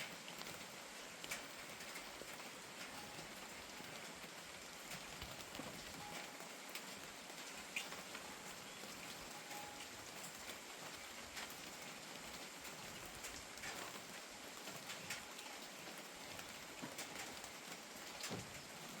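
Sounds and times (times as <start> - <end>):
raindrops ticking on surfaces: 0.0 - 19.0
steady rain falling: 0.0 - 19.0.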